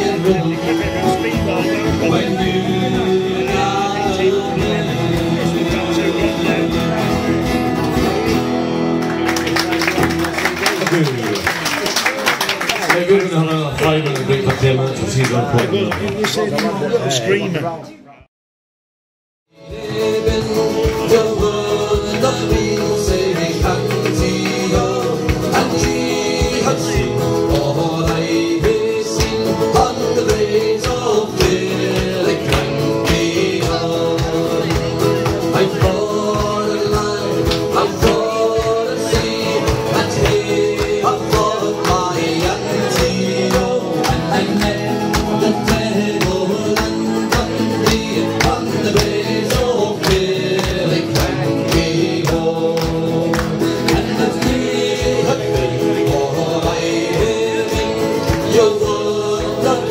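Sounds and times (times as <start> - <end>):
song with singing and guitar: 0.0 - 11.3, 19.5 - 59.9.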